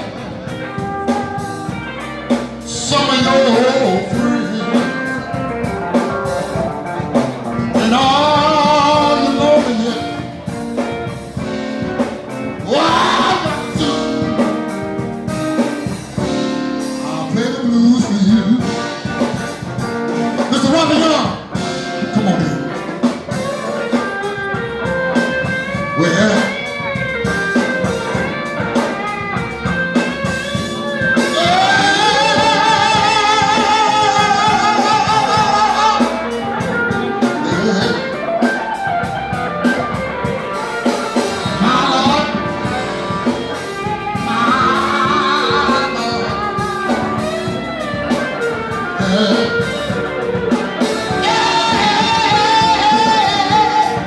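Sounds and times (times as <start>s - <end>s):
guitar accompaniment: 0.0s - 54.0s
person singing blues: 0.0s - 54.0s.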